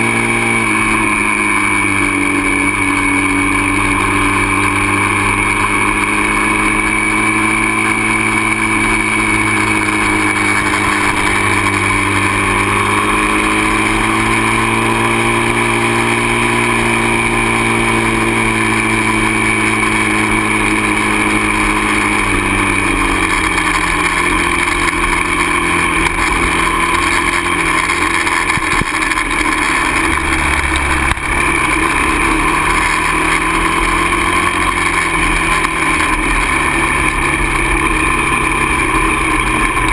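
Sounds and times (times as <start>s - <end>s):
constant rushing noise: 0.0s - 39.9s
dirt bike engine running: 0.0s - 39.9s.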